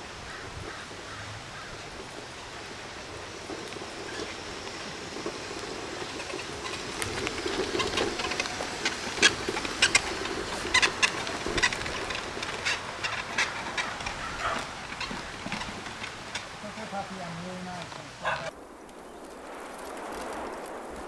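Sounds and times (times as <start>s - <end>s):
wheels crackling on dirt path: 0.0s - 21.0s
wheelchair motor hum: 1.5s - 18.5s.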